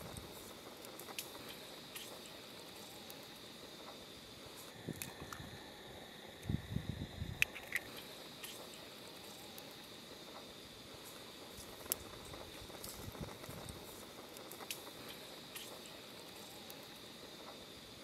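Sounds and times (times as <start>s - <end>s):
eggs sizzling in a pan: 0.0s - 5.4s, 7.4s - 18.0s
small pops and crackles: 0.0s - 5.5s, 7.3s - 18.0s.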